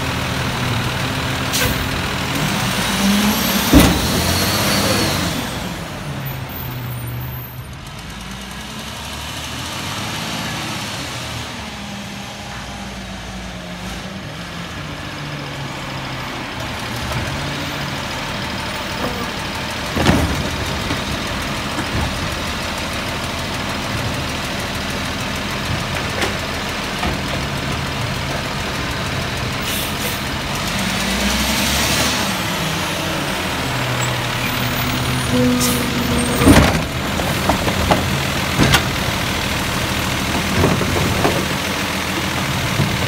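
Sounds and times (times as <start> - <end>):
diesel truck engine: 0.0 - 43.0.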